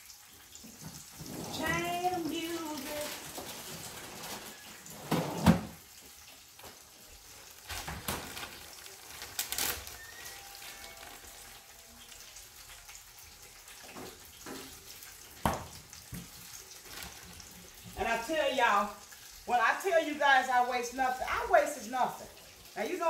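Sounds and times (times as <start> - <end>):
chicken frying in oil: 0.0 - 23.0.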